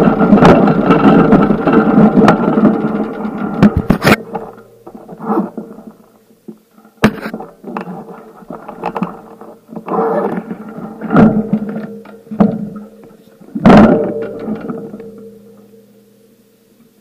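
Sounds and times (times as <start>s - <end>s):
bicycle rattling over rough ground: 0.0s - 15.6s
faint steady hum: 0.0s - 17.0s.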